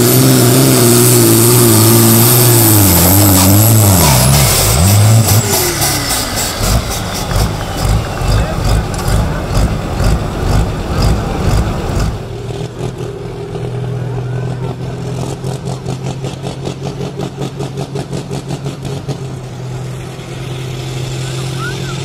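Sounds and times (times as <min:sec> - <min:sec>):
tractor engine under full load: 0:00.0 - 0:22.0
tractors idling with low hum: 0:00.0 - 0:22.0.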